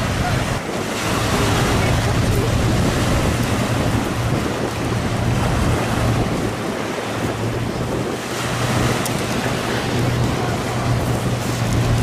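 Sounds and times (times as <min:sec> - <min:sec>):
boat engines droning: 0:00.0 - 0:12.0
choppy sea: 0:00.0 - 0:12.0
wind on microphone: 0:00.0 - 0:12.0.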